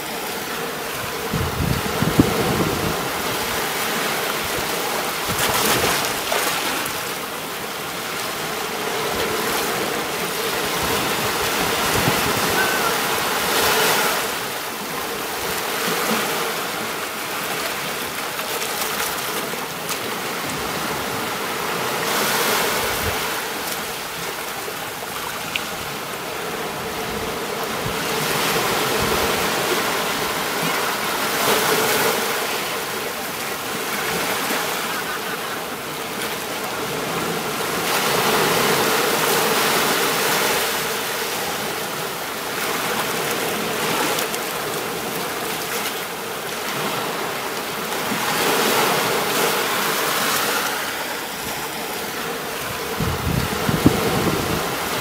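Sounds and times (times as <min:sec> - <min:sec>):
sea waves washing onto beach: 0:00.0 - 0:55.0.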